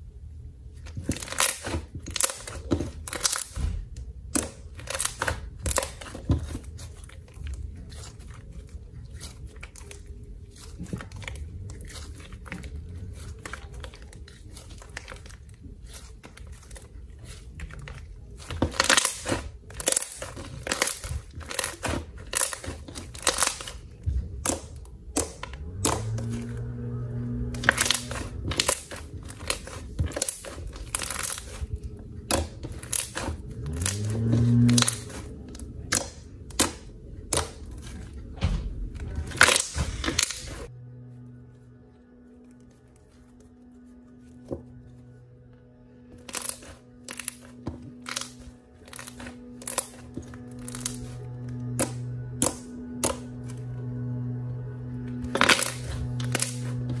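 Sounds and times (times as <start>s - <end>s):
low-pitched slime squelch: 0.0s - 57.0s
slime crackling and popping: 0.8s - 40.7s, 46.1s - 57.0s.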